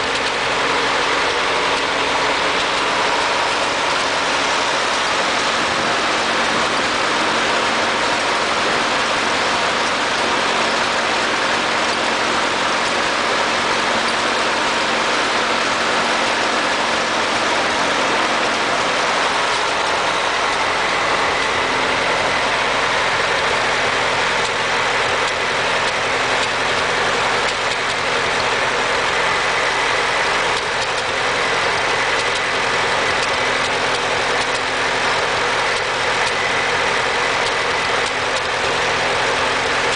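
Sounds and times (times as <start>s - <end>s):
tractor engine misfiring: 0.0s - 39.9s.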